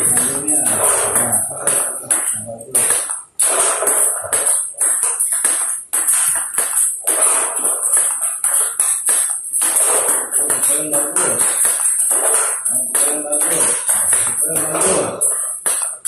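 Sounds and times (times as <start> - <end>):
ball bouncing on table: 0.0 - 16.0
ball clicking off paddles: 0.0 - 16.0.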